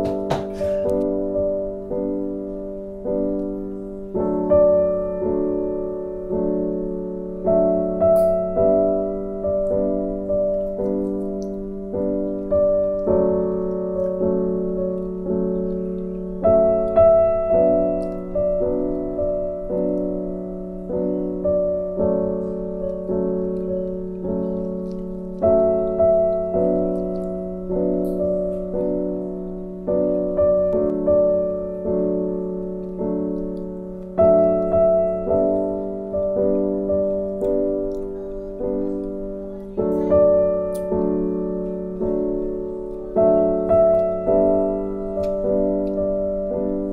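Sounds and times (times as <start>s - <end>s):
slow piano piece: 0.0s - 46.9s.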